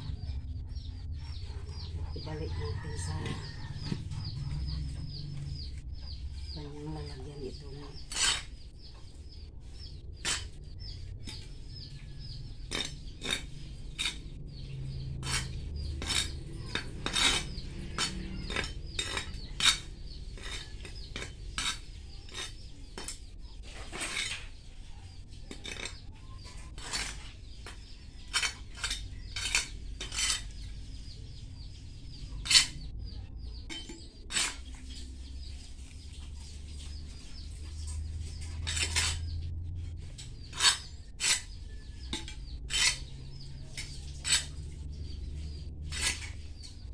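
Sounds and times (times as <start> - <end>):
soil scraping against pots: 1.2 - 46.9.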